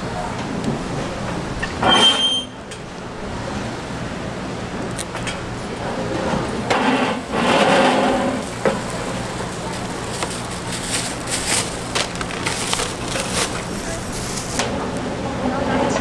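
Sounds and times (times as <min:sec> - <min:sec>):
street background noise: 0:00.0 - 0:16.0.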